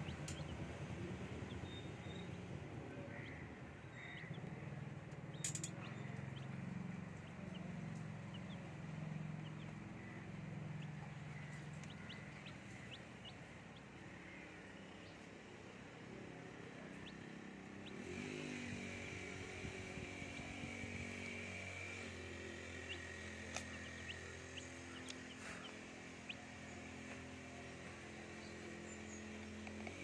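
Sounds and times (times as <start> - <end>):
baby chicks peeping: 0.0 - 30.0
steady low hum: 0.0 - 30.0.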